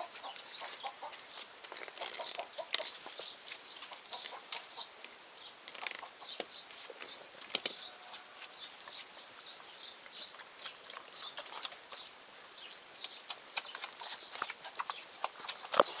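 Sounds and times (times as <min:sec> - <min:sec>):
puppies chewing food: 0:00.0 - 0:16.0
puppies chirping: 0:00.0 - 0:16.0.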